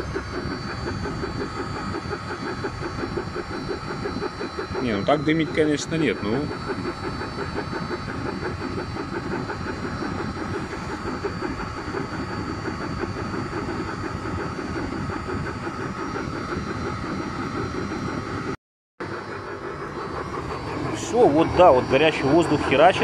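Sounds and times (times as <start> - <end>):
air heater burner and fan running: 0.0 - 18.4, 19.4 - 23.0.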